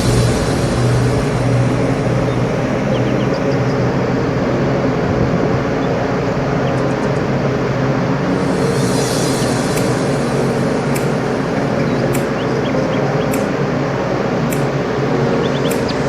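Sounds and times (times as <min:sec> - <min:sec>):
even hiss: 0:00.0 - 0:16.0
ship diesel engines droning: 0:00.0 - 0:16.0.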